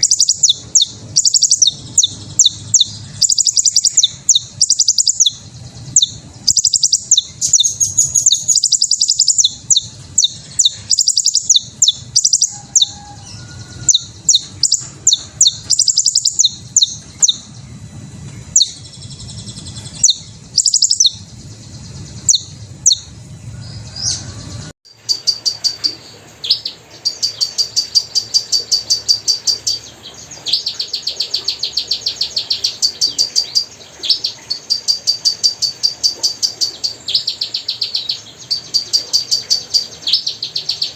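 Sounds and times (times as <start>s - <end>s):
hummingbirds chirping: 0.0s - 40.9s.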